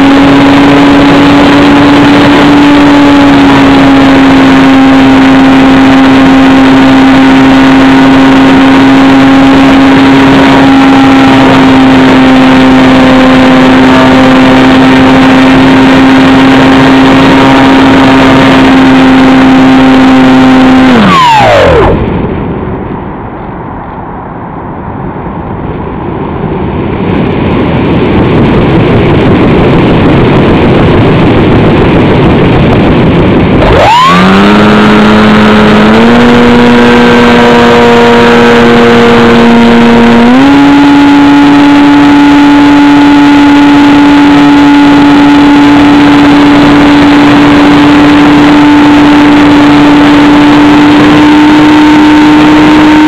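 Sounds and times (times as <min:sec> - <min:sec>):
electric motor and propeller whine: 0:00.0 - 0:23.5, 0:26.7 - 0:53.0
wind rushing over microphone: 0:00.0 - 0:53.0.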